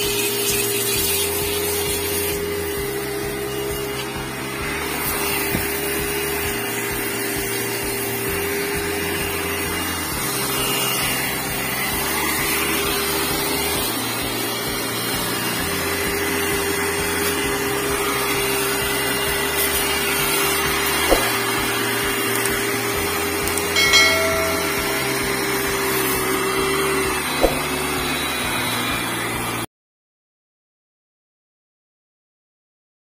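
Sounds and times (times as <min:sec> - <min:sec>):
pressure washer motor humming: 0:00.0 - 0:29.6.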